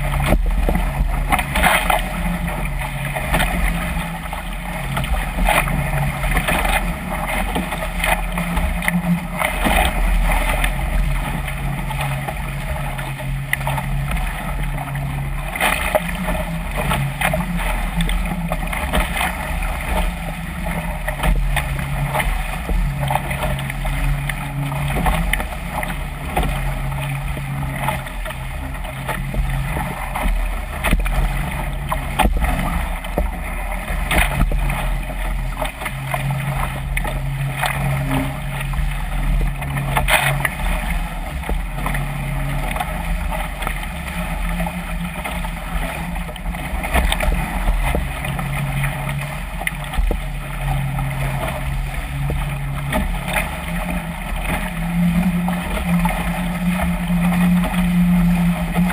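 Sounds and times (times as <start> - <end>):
water rushing along a hull: 0.0 - 58.9.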